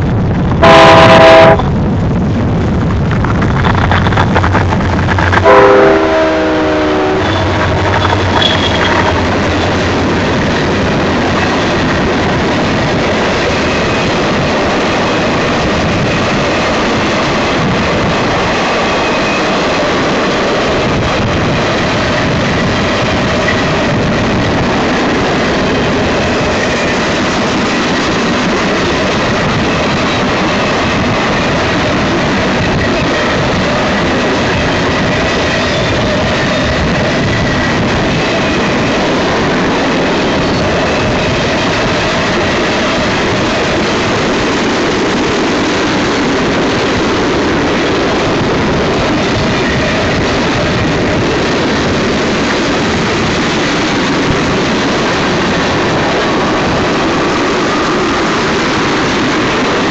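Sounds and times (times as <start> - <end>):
freight train wheels on rail: 0.0 - 59.9.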